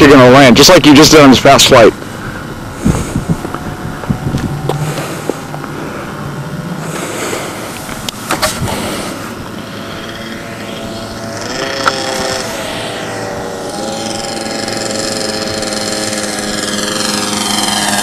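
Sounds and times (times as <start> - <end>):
model plane engine: 0.0 - 18.0.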